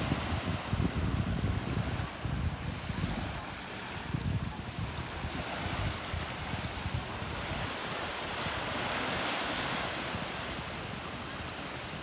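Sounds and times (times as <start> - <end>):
ocean waves breaking: 0.0 - 12.0
wind buffeting microphone: 0.0 - 12.0.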